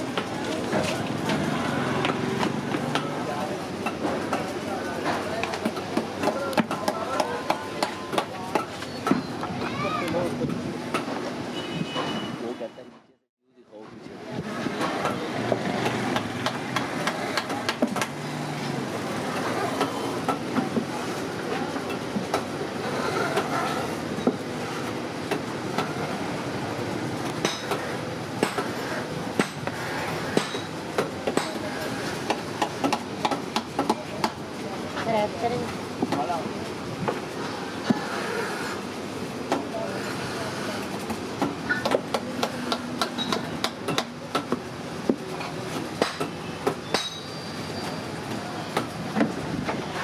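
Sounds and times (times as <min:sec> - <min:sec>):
steady background noise: 0:00.0 - 0:50.0.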